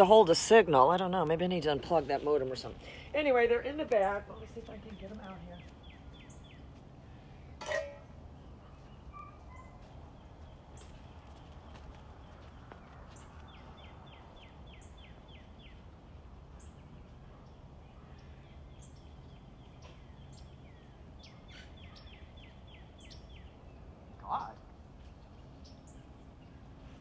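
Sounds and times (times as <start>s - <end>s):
faint birdsong chirps: 0.0s - 27.0s
steady background hum: 0.0s - 27.0s.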